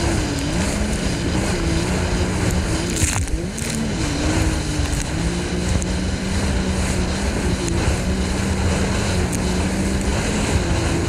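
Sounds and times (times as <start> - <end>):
jet ski engine drone: 0.0 - 11.0
wind on microphone: 0.0 - 11.0.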